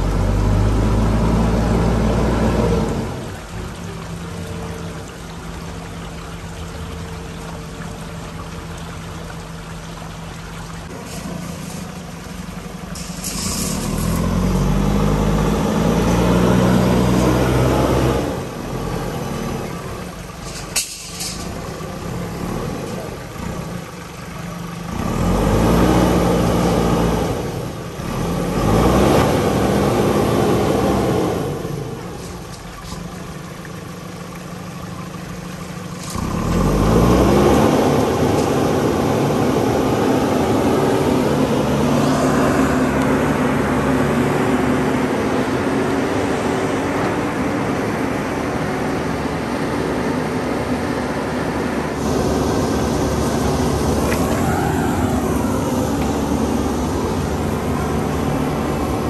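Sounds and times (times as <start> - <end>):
diesel engine revving: 0.0 - 5.9, 10.8 - 59.0.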